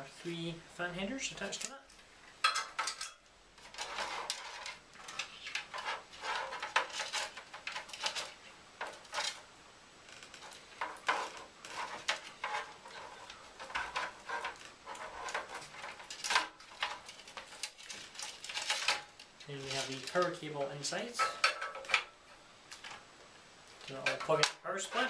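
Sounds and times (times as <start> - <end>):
light clicks knocks and rustles: 1.4 - 23.0.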